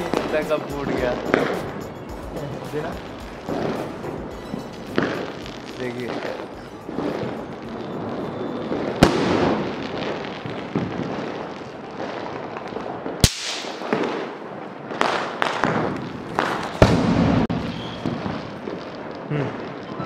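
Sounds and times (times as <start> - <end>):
fireworks going off: 0.0 - 20.0.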